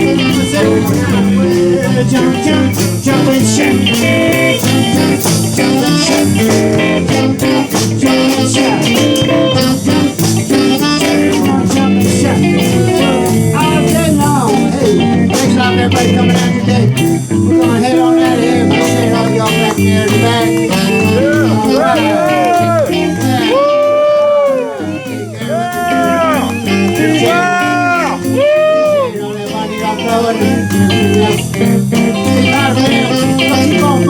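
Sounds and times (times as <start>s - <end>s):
blues band playing: 0.0s - 34.0s
electric guitar: 0.0s - 34.0s.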